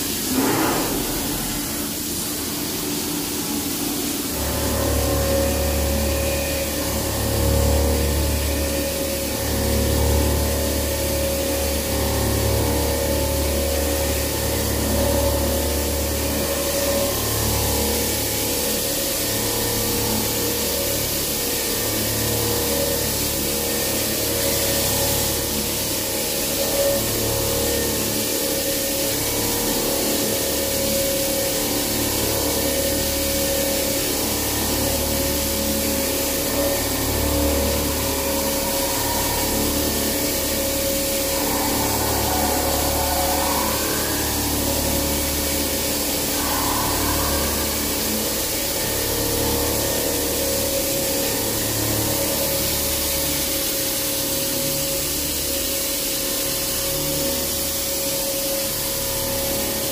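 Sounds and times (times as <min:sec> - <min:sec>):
hiss of cutting and coolant spray: 0:00.0 - 0:59.9
milling machine spindle hum and whine: 0:00.0 - 0:59.9.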